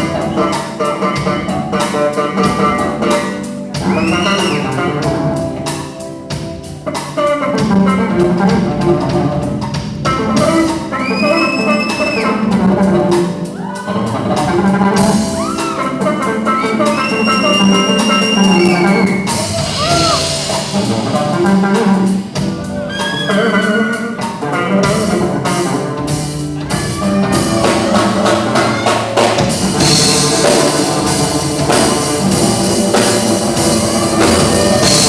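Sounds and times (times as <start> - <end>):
music with drum beat: 0.0 - 35.0.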